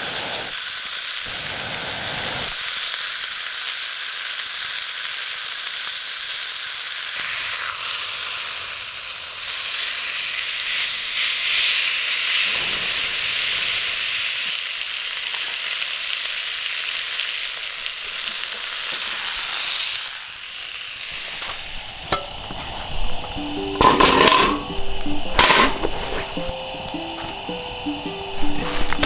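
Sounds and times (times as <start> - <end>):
steak sizzling over campfire: 0.0 - 29.0.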